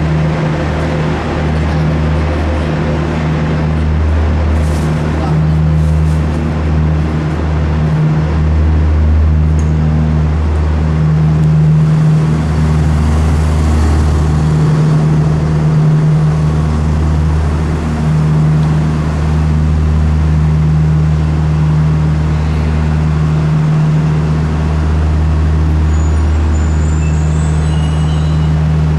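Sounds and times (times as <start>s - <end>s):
train machinery low hum: 0.0s - 28.9s.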